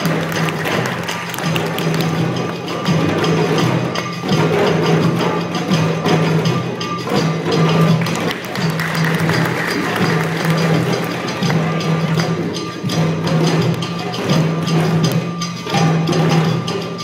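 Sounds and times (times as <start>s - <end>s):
children playing hand drums: 0.0s - 17.0s.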